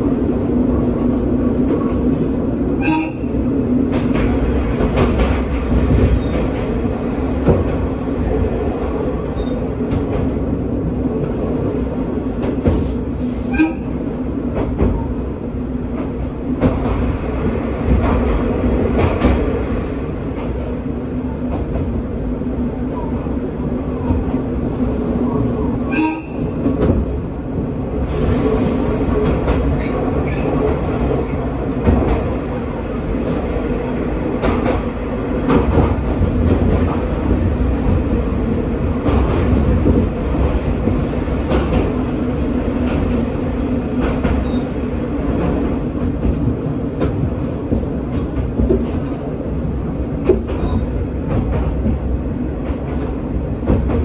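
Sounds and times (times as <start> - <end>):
train engine drone: 0.0 - 54.0.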